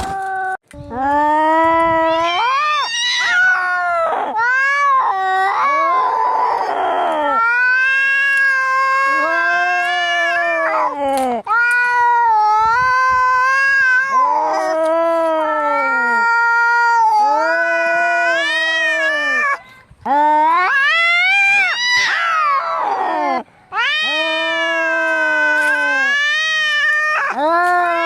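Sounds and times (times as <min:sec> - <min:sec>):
cats yowling: 0:00.0 - 0:28.0.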